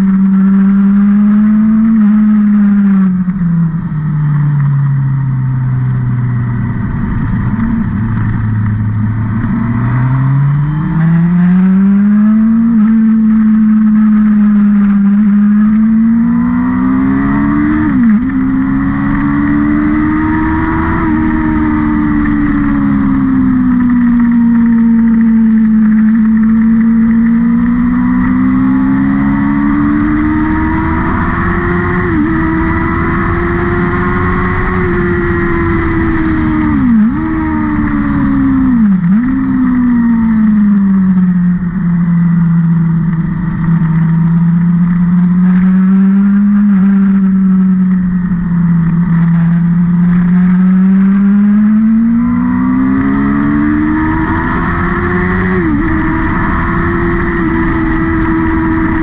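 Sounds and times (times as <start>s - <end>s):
race car engine running hard: 0.9s - 59.0s.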